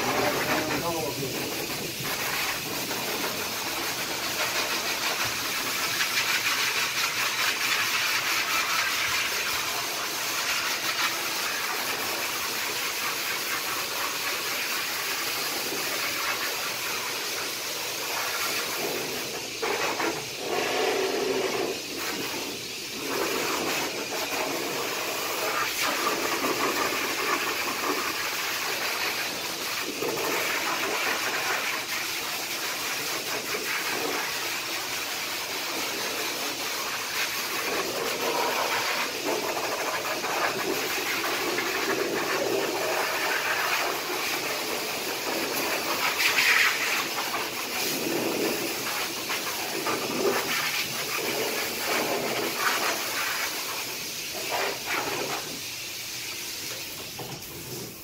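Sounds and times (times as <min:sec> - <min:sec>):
dog dryer blowing air: 0:00.0 - 0:58.0.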